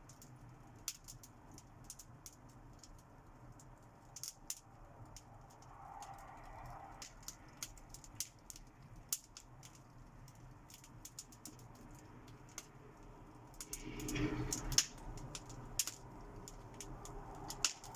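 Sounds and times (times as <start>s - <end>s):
fire crackling: 0.0s - 17.9s.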